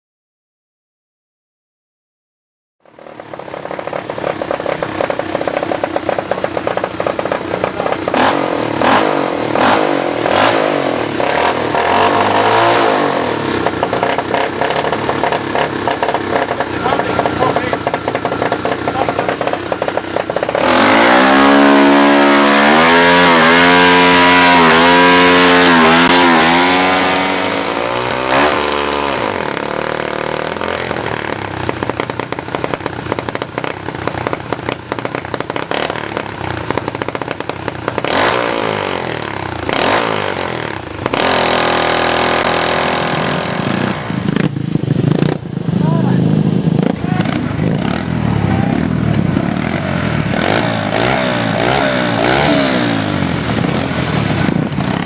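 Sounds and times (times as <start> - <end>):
kart engine revving: 2.8 - 55.0.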